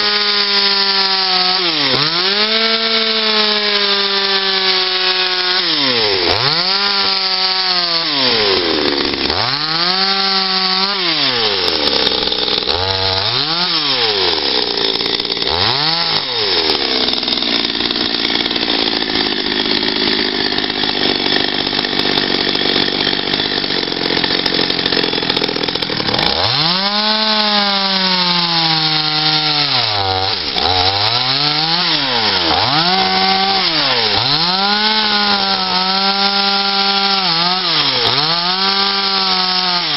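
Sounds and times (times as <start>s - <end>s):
chainsaw revving cutting wood: 0.0s - 39.9s.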